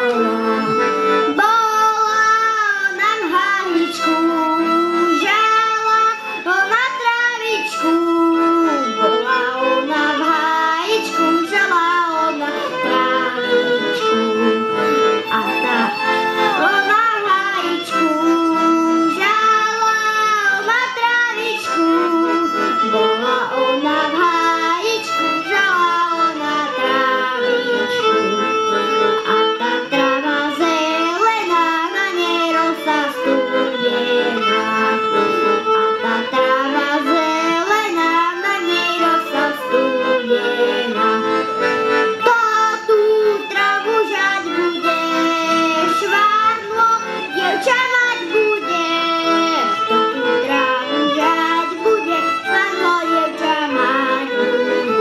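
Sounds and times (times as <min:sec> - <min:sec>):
boy singing: 0:00.0 - 0:28.6, 0:29.9 - 0:35.2, 0:36.0 - 0:41.2, 0:42.1 - 0:55.0
piano accordion: 0:00.0 - 0:55.0
violin: 0:00.0 - 0:55.0.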